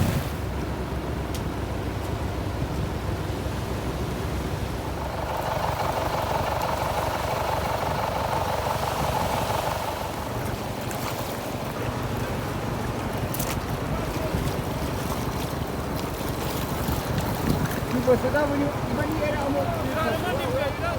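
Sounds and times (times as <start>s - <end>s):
wind buffeting microphone: 0.0s - 0.8s, 4.0s - 10.9s, 11.5s - 20.9s
sea surf: 0.0s - 1.0s, 3.4s - 20.9s.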